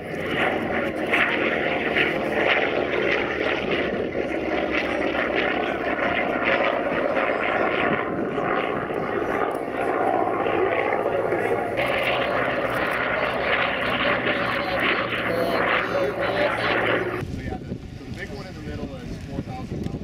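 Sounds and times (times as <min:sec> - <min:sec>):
propeller plane flying past: 0:00.0 - 0:18.8.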